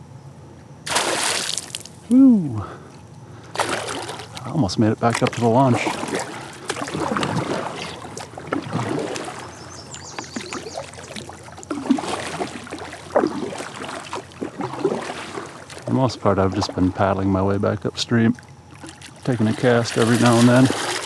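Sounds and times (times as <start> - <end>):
water splashing and sloshing: 0.8 - 2.0, 2.9 - 21.0
fish thrashing at water surface: 0.9 - 2.0, 3.5 - 17.0, 18.4 - 21.0.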